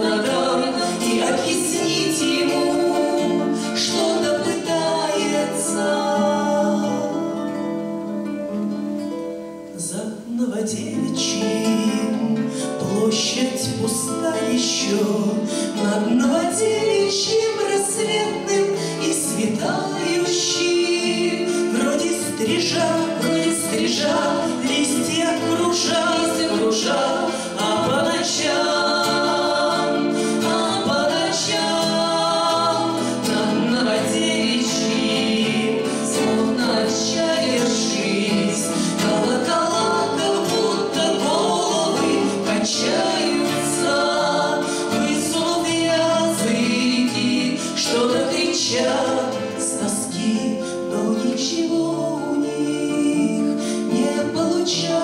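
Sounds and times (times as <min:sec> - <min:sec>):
women singing a duet: 0:00.0 - 0:08.1, 0:09.7 - 0:55.0
acoustic guitars: 0:00.0 - 0:55.0.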